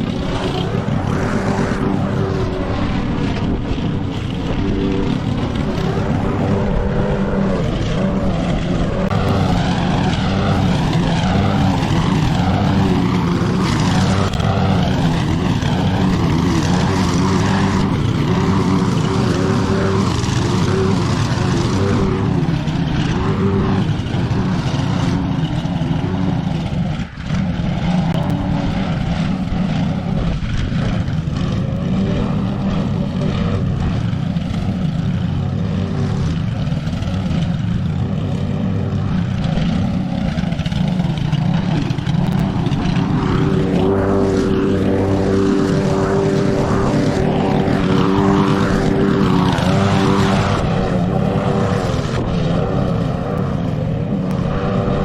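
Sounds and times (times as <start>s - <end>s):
lawn mower engine cutting grass: 0.0s - 55.0s.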